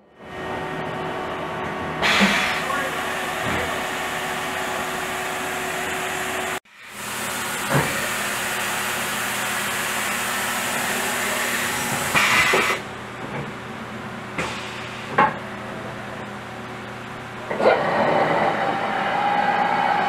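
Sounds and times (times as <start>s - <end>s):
machining center humming: 0.0s - 20.0s.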